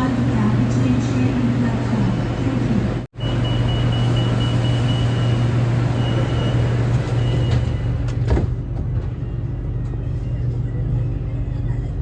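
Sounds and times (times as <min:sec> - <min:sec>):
train car running hum: 0:00.0 - 0:12.0.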